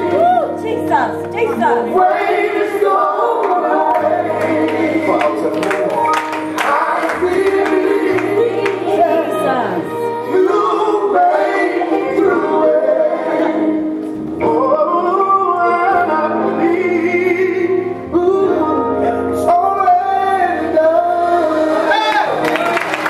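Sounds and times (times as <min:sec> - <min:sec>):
recorded gospel song with vocals: 0:00.0 - 0:23.0.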